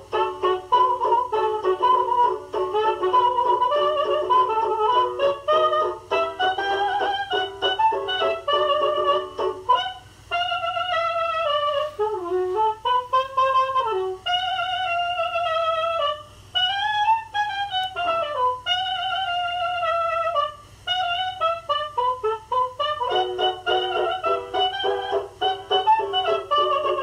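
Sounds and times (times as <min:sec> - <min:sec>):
soprano saxophone jazz melody: 0:00.0 - 0:27.0.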